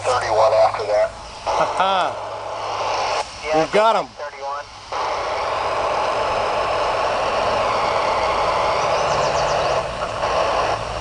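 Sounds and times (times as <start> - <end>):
radio hiss: 0.0 - 11.0.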